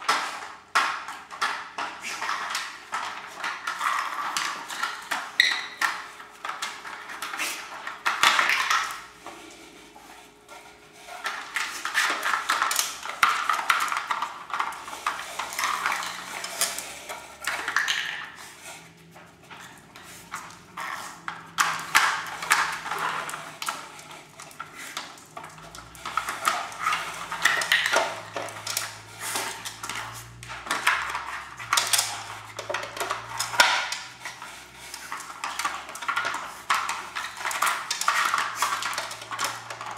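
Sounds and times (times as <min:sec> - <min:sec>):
plastic dog toys clacking on tiles: 0:00.0 - 0:39.9.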